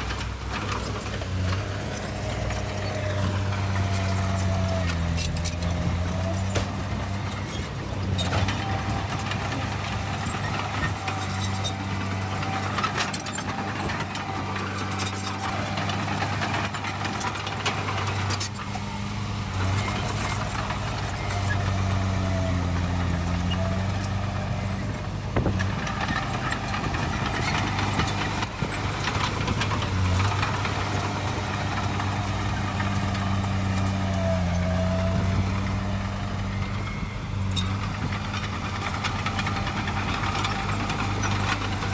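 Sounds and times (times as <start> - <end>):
heavy diesel engine droning: 0.0 - 41.9.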